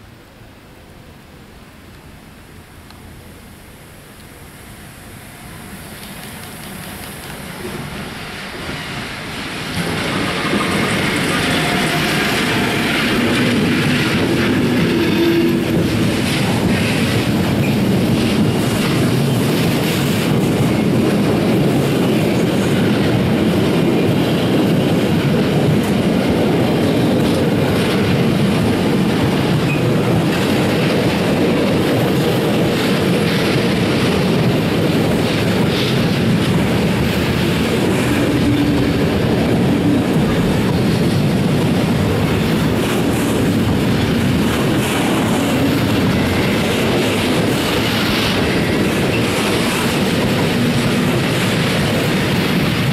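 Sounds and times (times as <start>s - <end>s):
steel wheels rumbling on rails: 3.8s - 52.9s
clickety-clack over rail joints: 6.0s - 52.9s.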